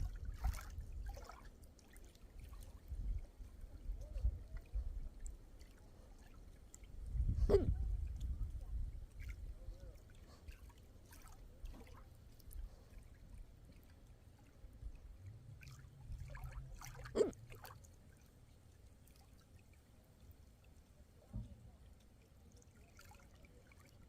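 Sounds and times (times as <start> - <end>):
small waves lapping: 0.0 - 24.0.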